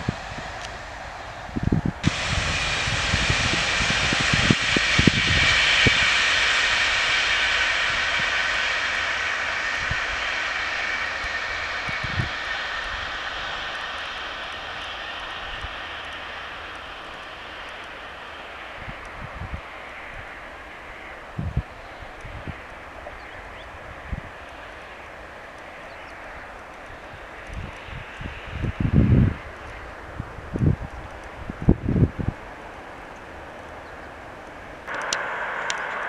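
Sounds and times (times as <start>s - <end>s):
electric train passing: 0.0s - 36.0s
faint steady whine: 0.0s - 36.0s.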